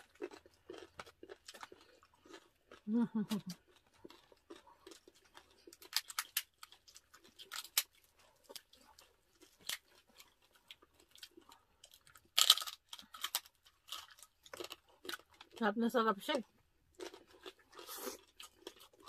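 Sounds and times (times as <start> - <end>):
crunching and chewing crispy meat: 0.0 - 19.0.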